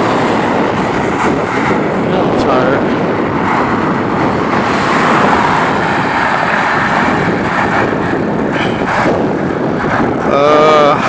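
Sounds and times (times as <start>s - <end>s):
road traffic passing: 0.0s - 11.0s
wind on microphone: 0.0s - 11.0s.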